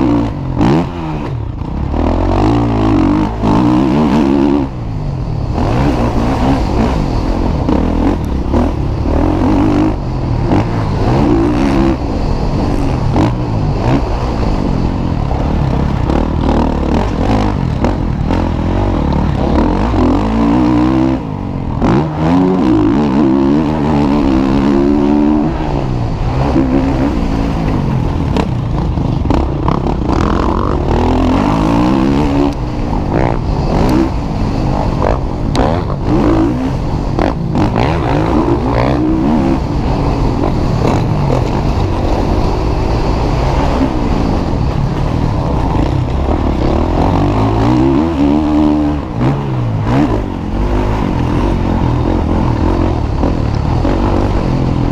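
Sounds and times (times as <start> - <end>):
motocross motorcycles revving: 0.0 - 54.9.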